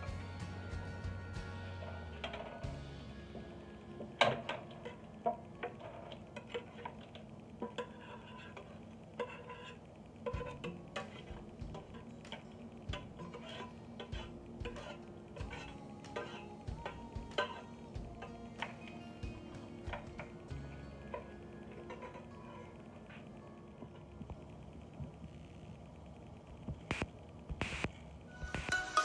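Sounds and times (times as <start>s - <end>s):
quiet background music: 0.0s - 29.0s.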